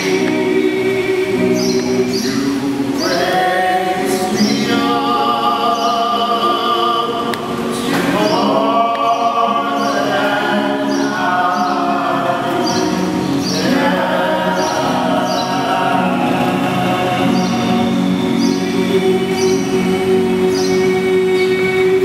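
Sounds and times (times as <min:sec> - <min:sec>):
group singing harmonies: 0:00.0 - 0:22.0.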